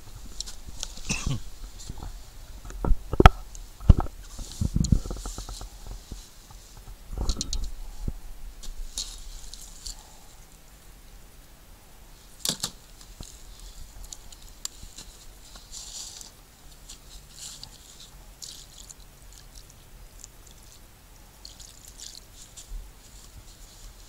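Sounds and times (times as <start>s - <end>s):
fishing gear rustling: 0.0s - 10.6s, 12.3s - 24.0s.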